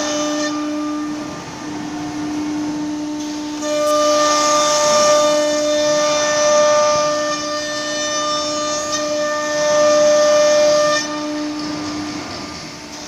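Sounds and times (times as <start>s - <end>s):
wood router spindle whining: 0.0s - 13.0s.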